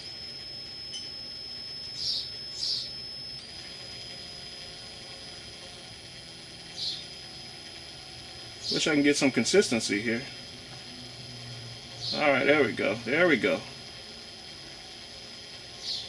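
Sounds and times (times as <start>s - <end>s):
drill motor running slowly: 0.0s - 16.0s.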